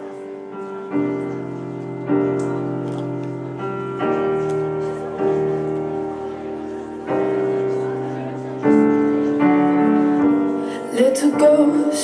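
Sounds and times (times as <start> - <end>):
solo piano chords: 0.0 - 12.0.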